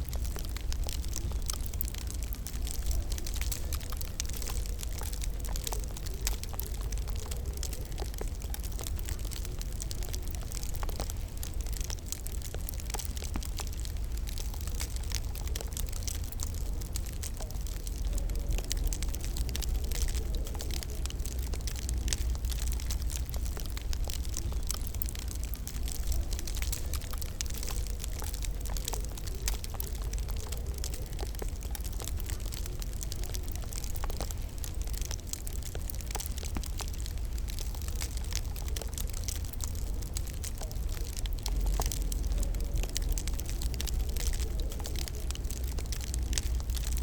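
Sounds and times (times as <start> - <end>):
low rumble of fire: 0.0 - 47.0
wood fire crackling: 0.0 - 47.0.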